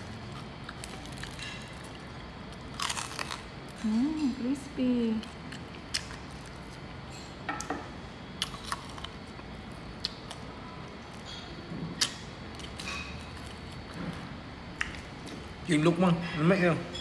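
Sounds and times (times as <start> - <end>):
chewing crispy pork skin: 0.0 - 7.2, 8.3 - 15.5
steady background hum: 0.0 - 17.0.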